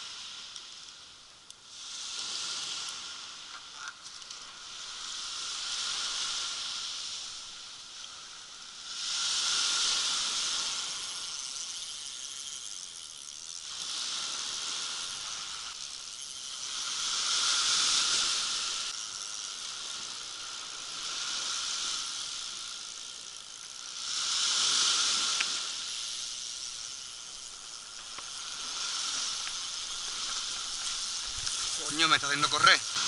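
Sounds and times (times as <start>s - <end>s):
waves washing over shingle: 1.8s - 33.0s.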